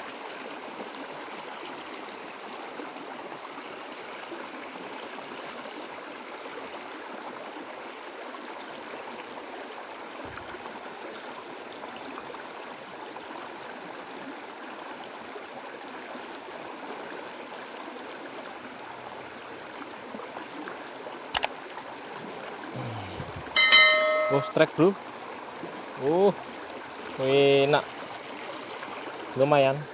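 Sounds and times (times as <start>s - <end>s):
stream water running: 0.0s - 29.9s.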